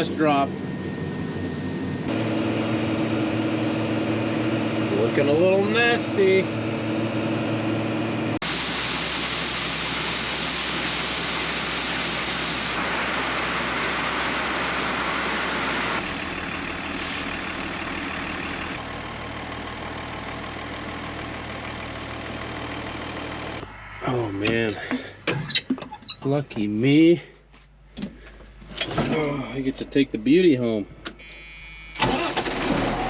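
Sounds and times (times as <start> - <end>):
farm machinery engine humming: 0.0 - 27.2.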